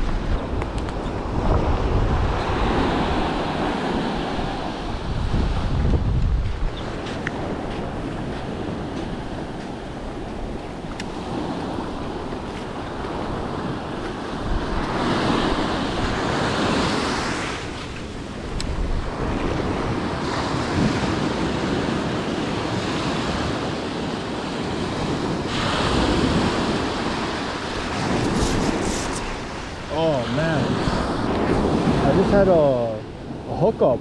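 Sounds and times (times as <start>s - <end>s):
wind buffeting microphone: 0.0s - 33.8s
ocean surf on a beach: 0.0s - 34.0s.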